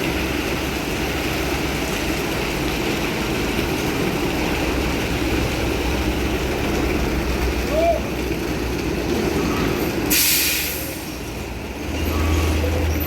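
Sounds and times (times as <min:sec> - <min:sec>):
heavy truck engine droning: 0:00.0 - 0:13.0.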